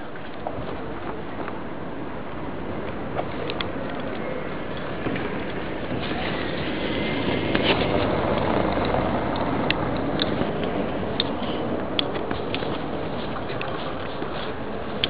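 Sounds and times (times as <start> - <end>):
distant traffic hum: 0.0 - 15.0.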